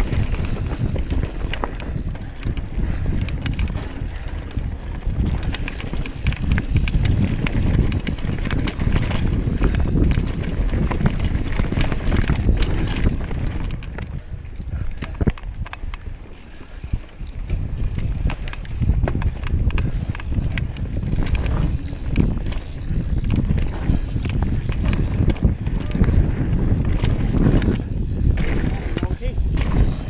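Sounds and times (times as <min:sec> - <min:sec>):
tyres rumbling over dirt: 0:00.0 - 0:14.3, 0:16.2 - 0:30.0
bike rattling clicks and knocks: 0:00.0 - 0:30.0
wind buffeting microphone: 0:00.0 - 0:30.0.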